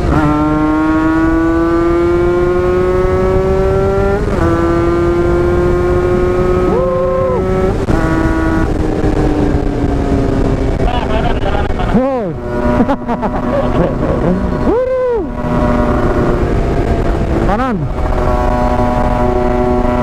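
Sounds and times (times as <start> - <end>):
motorcycle engine at full throttle: 0.0 - 20.0.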